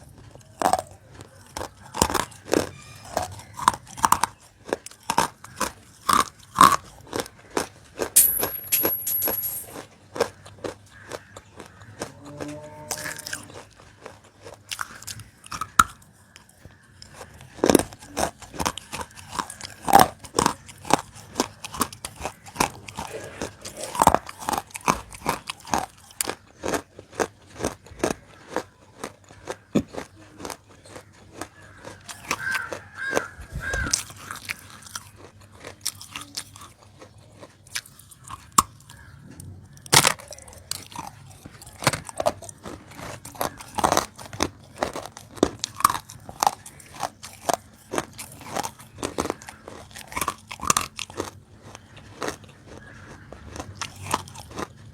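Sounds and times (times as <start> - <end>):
crunchy biting: 0.0 - 8.5, 9.6 - 54.9
soft chewing: 0.0 - 8.5, 9.6 - 54.9.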